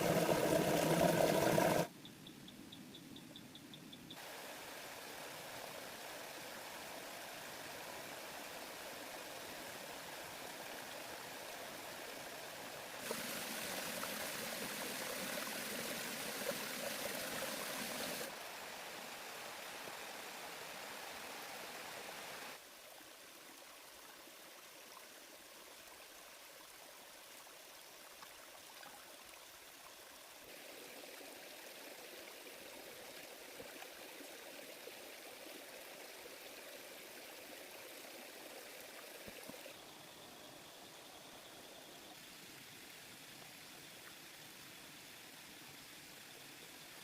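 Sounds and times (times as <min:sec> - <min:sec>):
faint rushing of flowing water: 0:00.0 - 0:01.9, 0:04.1 - 0:47.0.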